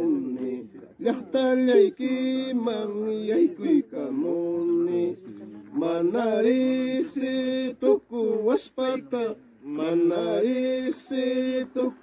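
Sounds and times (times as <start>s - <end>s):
men singing long held notes: 0.0s - 12.0s.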